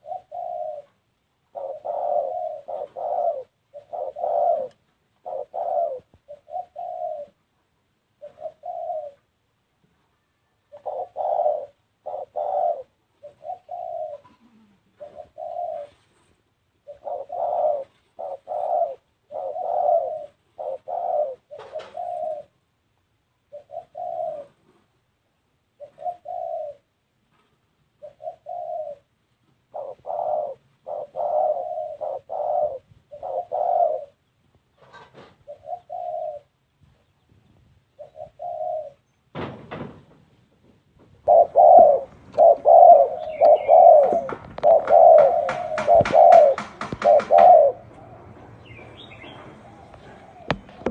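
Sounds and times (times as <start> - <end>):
dove cooing: 0.0 - 7.5, 8.1 - 9.4, 10.2 - 22.7, 23.4 - 25.0, 25.6 - 27.1, 27.9 - 37.2, 37.9 - 39.1, 41.2 - 50.9.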